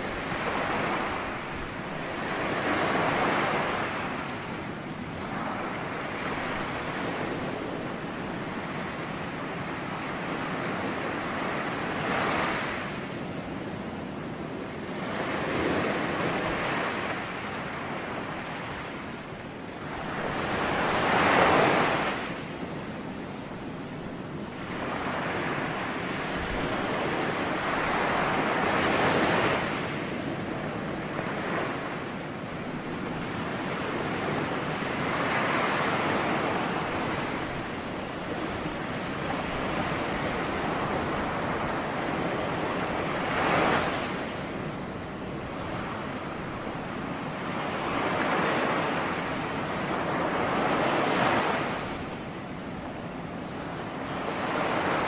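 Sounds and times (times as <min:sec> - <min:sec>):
ocean waves breaking: 0:00.0 - 0:13.2, 0:14.8 - 0:55.0.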